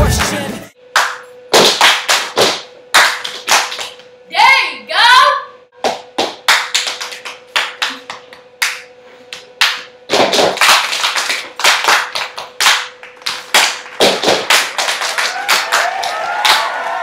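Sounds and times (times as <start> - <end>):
hand claps and slaps: 0.2 - 4.1, 5.8 - 16.7.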